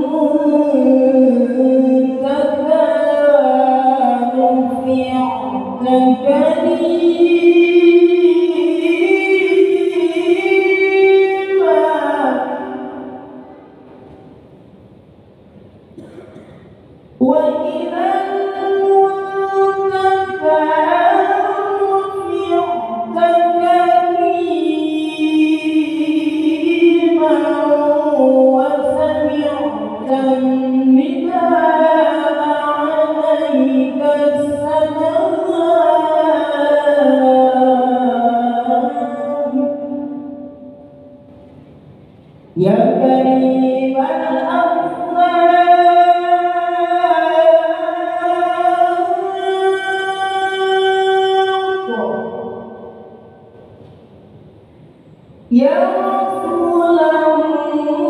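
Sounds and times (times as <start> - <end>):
person chanting: 0.0 - 13.8, 17.2 - 41.1, 42.6 - 53.4, 55.5 - 58.0.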